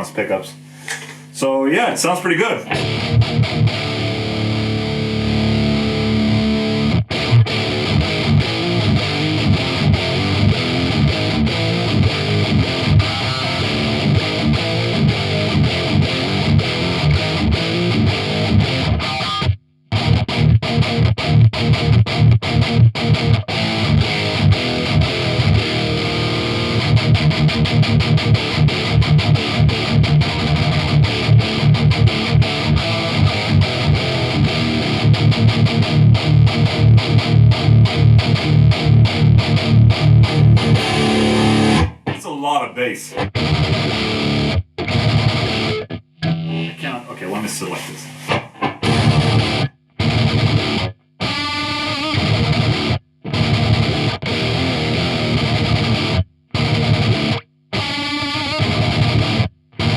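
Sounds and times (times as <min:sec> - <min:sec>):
distorted electric guitar riffs: 0:00.0 - 0:59.9.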